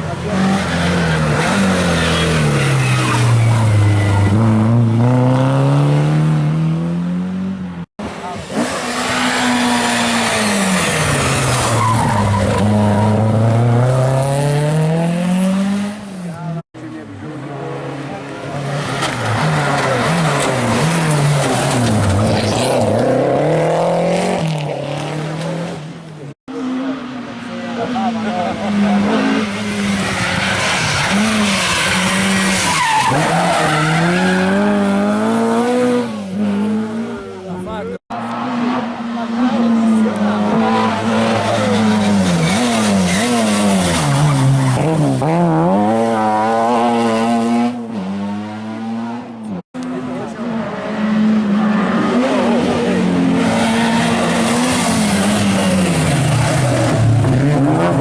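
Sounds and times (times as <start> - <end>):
rally car engine: 0.0 - 58.0.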